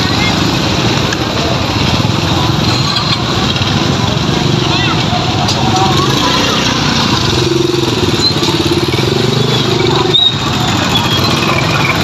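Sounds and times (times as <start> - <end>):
motorbike engine running: 0.0 - 12.0
steady background noise: 0.0 - 12.0.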